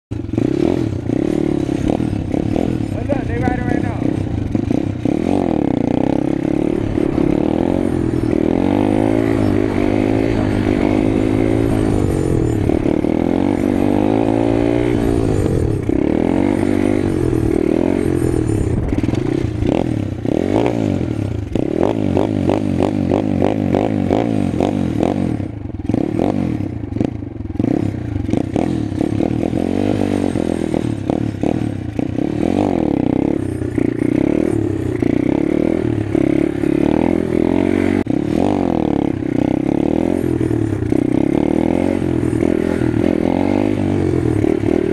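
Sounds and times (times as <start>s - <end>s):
motorbike engine revving: 0.1s - 44.9s.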